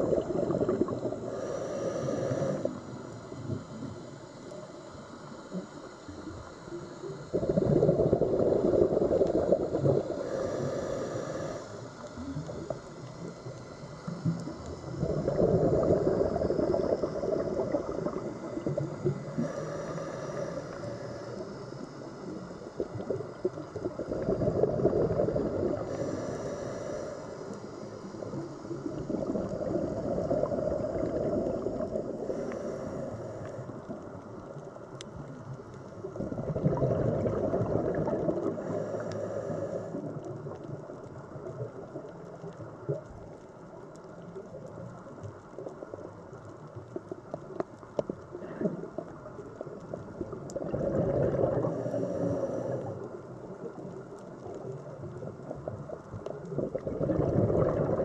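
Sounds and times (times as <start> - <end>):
faint regulator inhale hiss: 0.0 - 56.9
exhaled bubbles gurgling underwater: 0.0 - 58.0.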